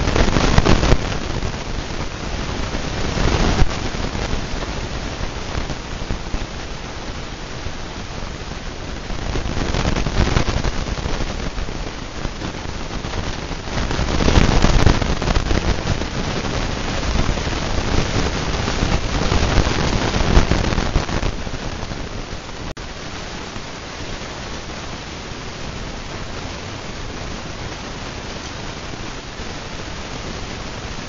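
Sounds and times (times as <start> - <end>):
ceiling fan air rushing: 0.0 - 31.0
wind buffeting on microphone: 0.0 - 31.0.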